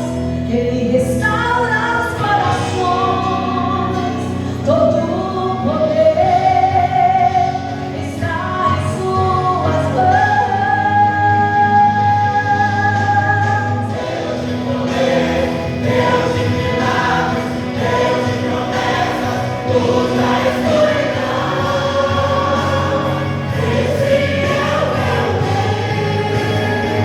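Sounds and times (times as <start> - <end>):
instrumental backing with bass: 0.0 - 27.0
vocal group singing gospel: 0.0 - 27.0.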